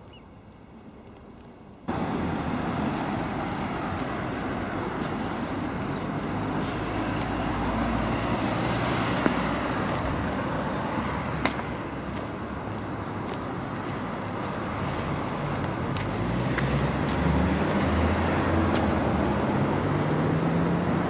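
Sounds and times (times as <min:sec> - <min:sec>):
tram and traffic rumble: 0:00.5 - 0:21.0.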